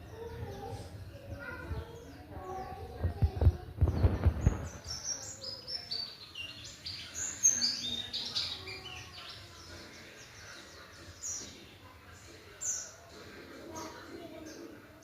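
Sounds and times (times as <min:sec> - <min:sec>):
bird twittering song: 0:00.0 - 0:14.8.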